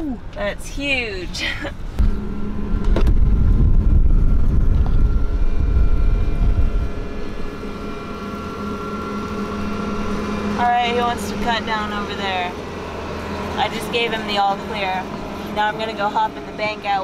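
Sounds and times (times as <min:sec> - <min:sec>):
combine harvester humming: 0:00.0 - 0:17.0
pickup truck driving: 0:00.2 - 0:17.0.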